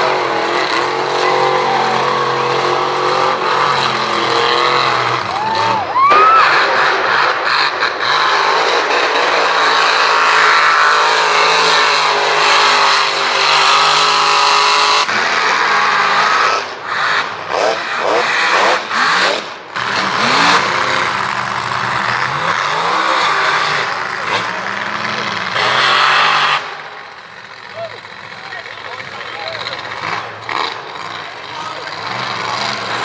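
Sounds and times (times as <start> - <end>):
truck engine revving: 0.0 - 33.0.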